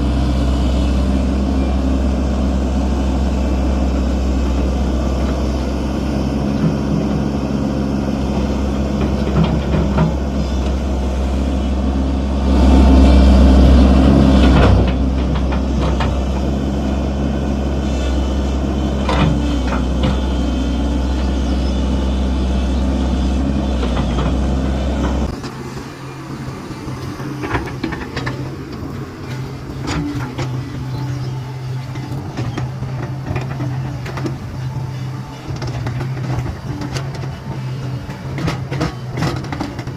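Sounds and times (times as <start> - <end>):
excavator diesel engine running: 0.0 - 39.9
quieter engine hum: 0.0 - 39.9.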